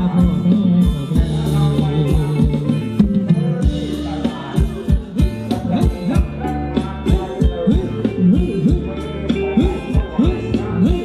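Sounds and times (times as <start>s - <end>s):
band music over loudspeakers: 0.0s - 11.0s
person singing: 0.0s - 11.0s
regular drum beat: 0.0s - 11.0s.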